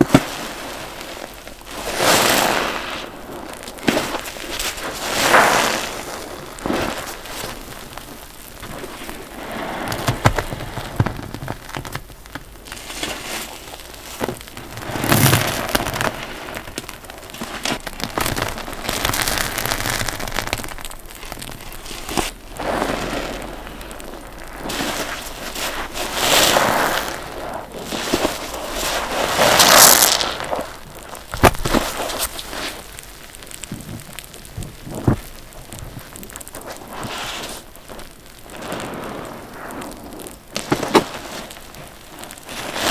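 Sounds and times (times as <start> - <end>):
small crackles: 0.0 - 42.9.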